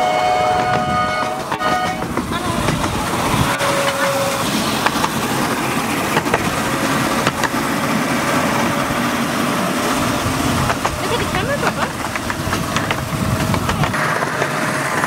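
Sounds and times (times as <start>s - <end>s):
miniature train rumbling on track: 0.0s - 15.0s.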